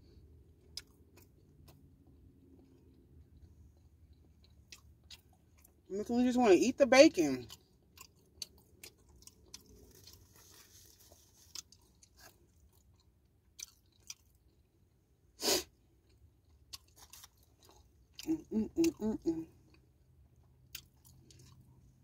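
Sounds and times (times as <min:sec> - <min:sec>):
person chewing: 0:00.2 - 0:05.9, 0:07.3 - 0:22.0.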